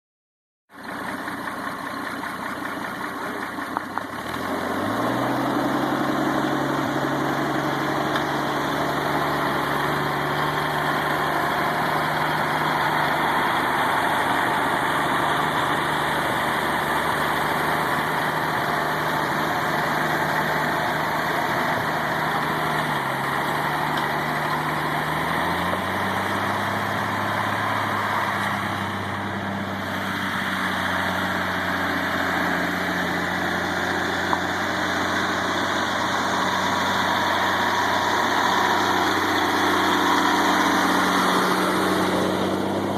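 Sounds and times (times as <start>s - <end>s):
tractor engine running: 0.7s - 42.9s.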